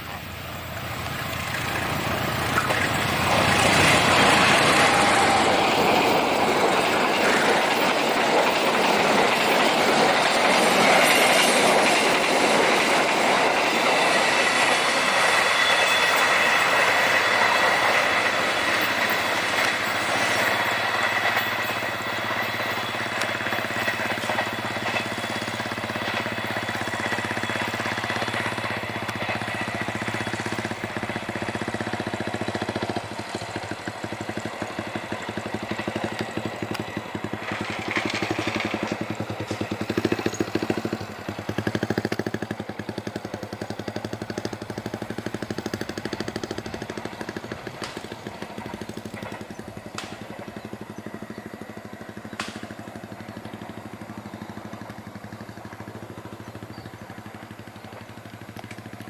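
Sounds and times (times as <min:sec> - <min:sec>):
diesel train engine hum: 0:00.0 - 0:59.0
wheels clattering over rails: 0:00.0 - 0:59.0.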